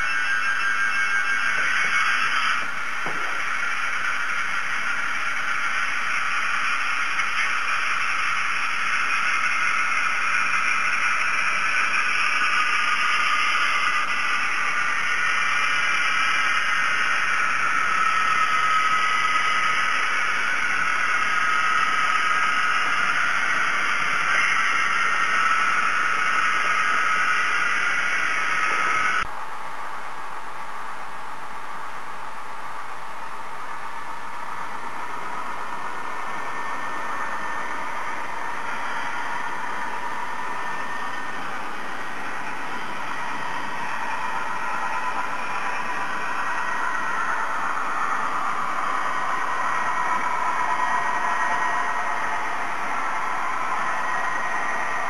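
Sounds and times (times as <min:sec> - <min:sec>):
faint motor whir: 0:00.0 - 0:55.0
model train wheels on rails: 0:00.0 - 0:55.0.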